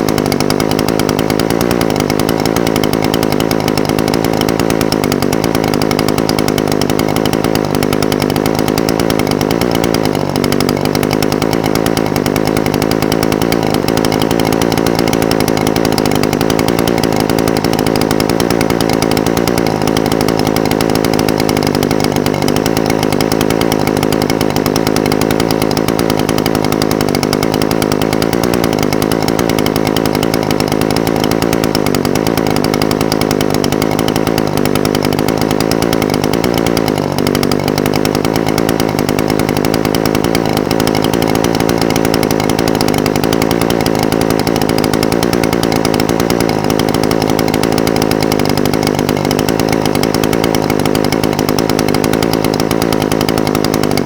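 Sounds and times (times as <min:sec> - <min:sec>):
brush cutter engine idling: 0:00.0 - 0:54.0.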